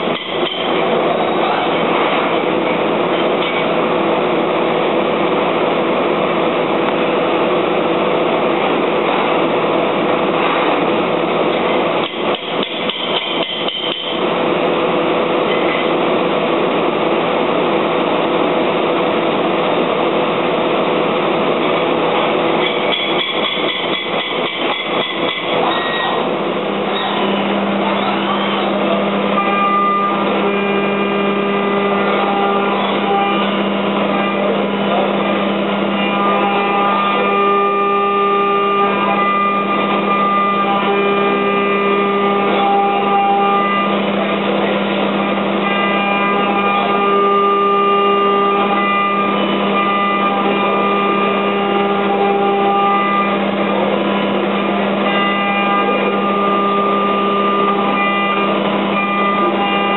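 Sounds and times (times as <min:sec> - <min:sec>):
milling machine hum: 0:00.0 - 0:59.9
spindle whining: 0:00.0 - 0:59.9.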